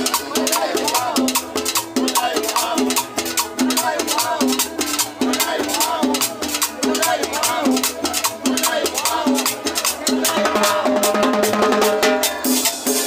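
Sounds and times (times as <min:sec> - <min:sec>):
snare drum cymbal and congas beat: 0:00.0 - 0:13.0.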